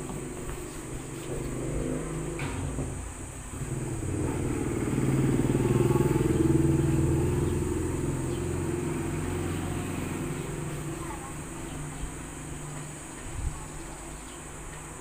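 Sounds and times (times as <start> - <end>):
motorcycle engine passing by: 0.0 - 14.3.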